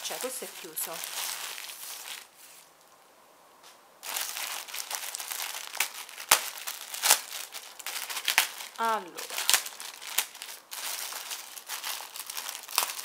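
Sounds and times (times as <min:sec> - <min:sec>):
paper wrapping crinkling: 0:00.0 - 0:02.7, 0:04.0 - 0:13.0.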